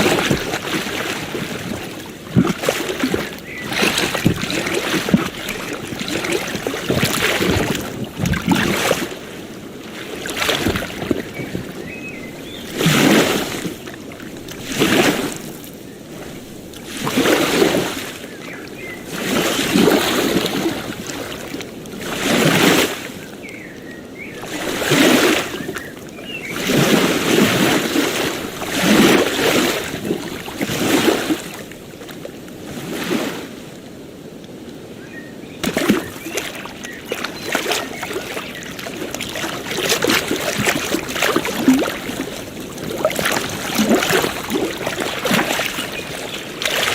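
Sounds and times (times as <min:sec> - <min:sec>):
water splashing: 0:00.0 - 0:33.6, 0:35.5 - 0:46.9
small waves breaking on a beach: 0:00.0 - 0:46.9.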